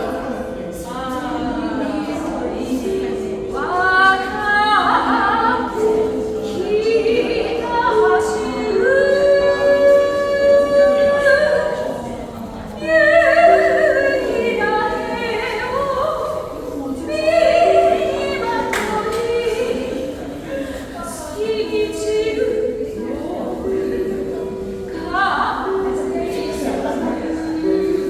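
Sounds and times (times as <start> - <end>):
woman singing: 0.0 - 28.0.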